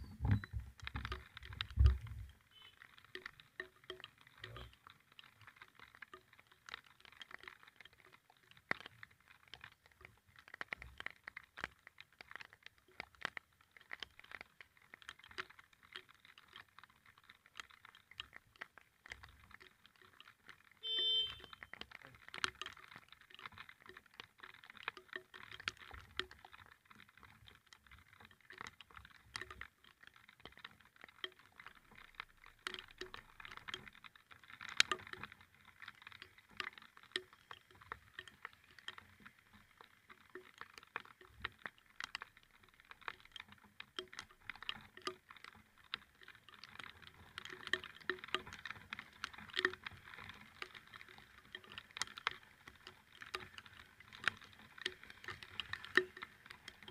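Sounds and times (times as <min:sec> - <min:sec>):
raindrops pattering: 0:00.0 - 0:56.9.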